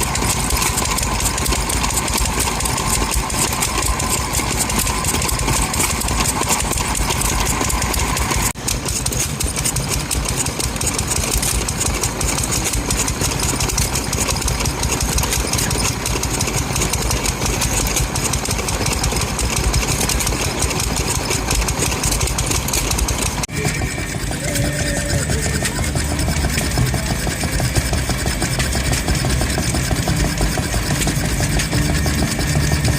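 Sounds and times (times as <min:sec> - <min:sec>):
engine running: 0:00.0 - 0:32.9.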